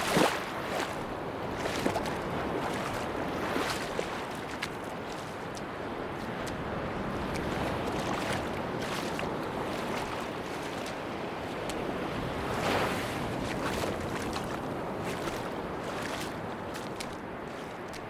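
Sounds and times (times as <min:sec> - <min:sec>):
sea waves washing on beach: 0:00.0 - 0:18.0
wind: 0:00.0 - 0:18.0.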